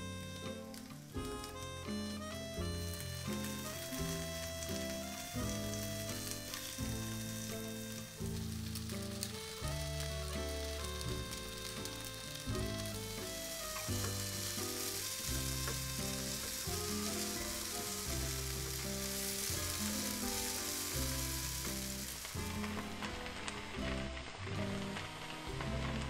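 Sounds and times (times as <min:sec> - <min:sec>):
pancakes sizzling in oil: 0:00.0 - 0:26.0
slow background music: 0:00.0 - 0:26.0.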